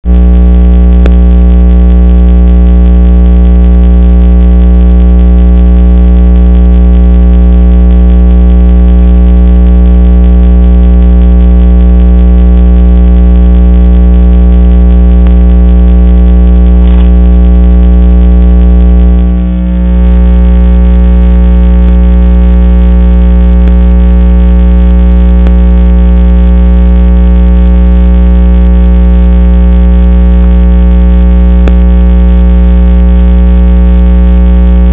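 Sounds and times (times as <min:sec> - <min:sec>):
loud electrical hum: 0:00.1 - 0:34.9.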